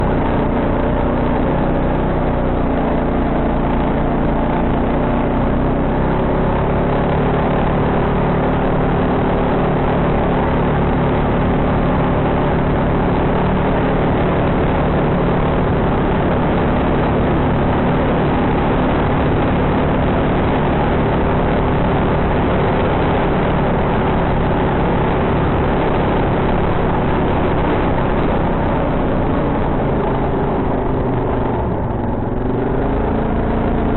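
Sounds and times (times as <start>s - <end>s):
quad bike engine droning: 0.0s - 33.9s.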